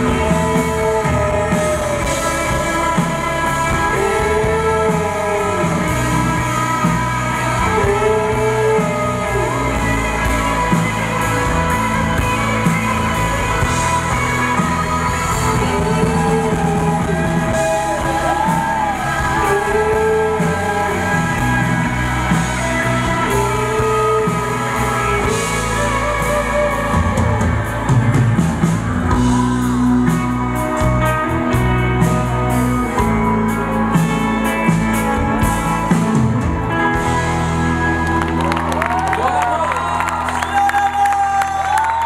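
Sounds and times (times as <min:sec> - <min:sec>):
person singing: 0:00.0 - 0:38.2
live rock band playing: 0:00.0 - 0:42.0.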